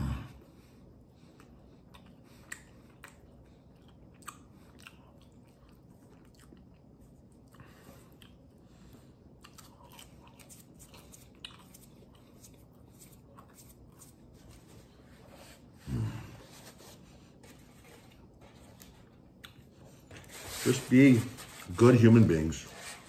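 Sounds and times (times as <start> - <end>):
man chewing: 0.8 - 20.4.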